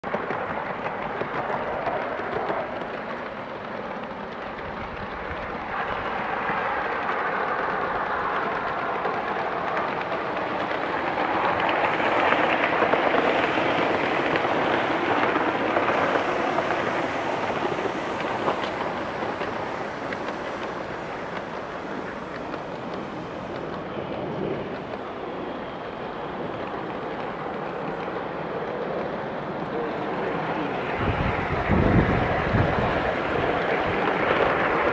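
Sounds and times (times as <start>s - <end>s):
model steam train running: 0.0s - 34.9s.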